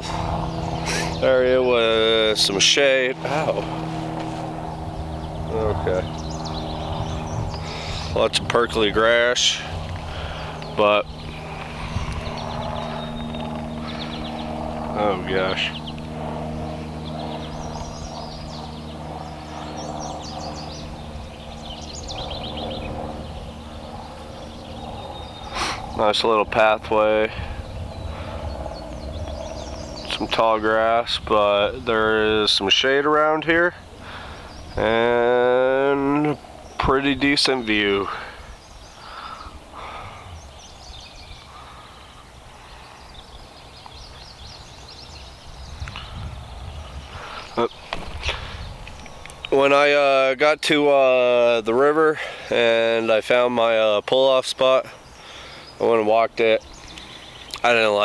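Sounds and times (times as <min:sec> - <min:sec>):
low steady rumble: 0:00.0 - 0:49.9
steady low drone: 0:00.0 - 0:54.0
songbirds chirping: 0:00.0 - 0:58.0.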